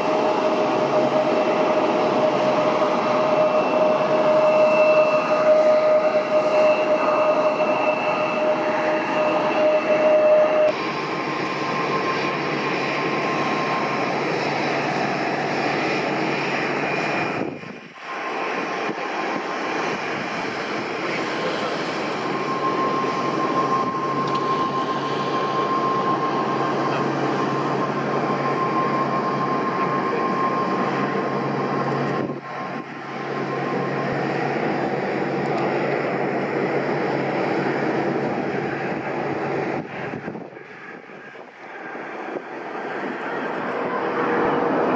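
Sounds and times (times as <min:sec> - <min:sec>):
jet engines rushing with whine: 0:00.0 - 0:44.9.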